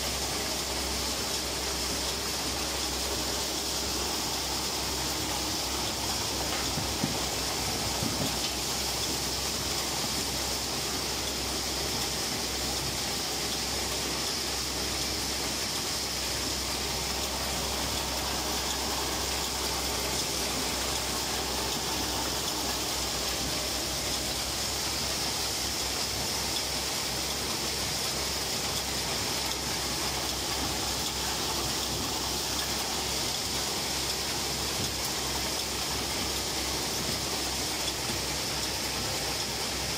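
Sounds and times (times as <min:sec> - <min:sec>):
harvester running: 0:00.0 - 0:39.9.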